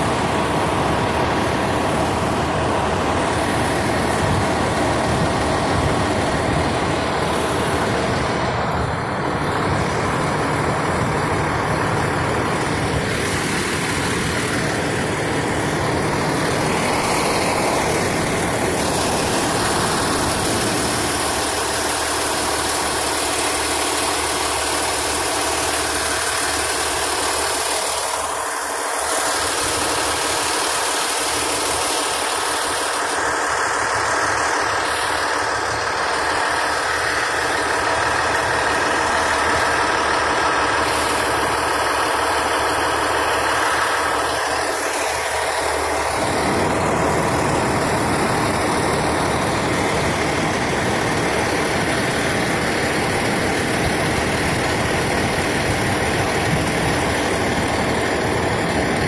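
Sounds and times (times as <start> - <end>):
fire engine idling: 0.0 - 59.0.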